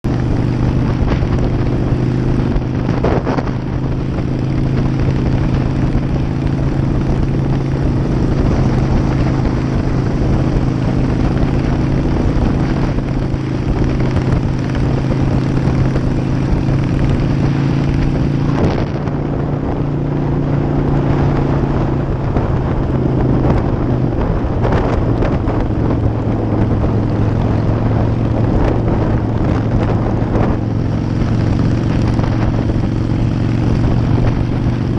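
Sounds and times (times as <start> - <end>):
motorcycle engine cruising: 0.0 - 34.9
wind on microphone: 0.0 - 34.9.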